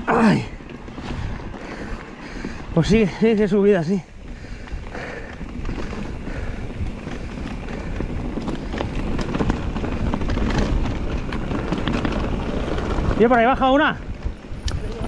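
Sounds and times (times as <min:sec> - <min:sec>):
clicks and rattles of stones and bike: 0:00.0 - 0:15.0
tyres rolling on dirt: 0:00.0 - 0:15.0
wind buffeting microphone: 0:00.0 - 0:15.0.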